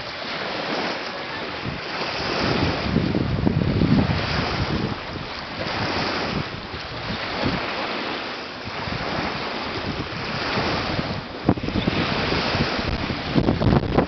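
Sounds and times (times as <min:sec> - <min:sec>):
small waves on sandy shore: 0:00.0 - 0:14.0
wind blowing on microphone: 0:00.0 - 0:14.0.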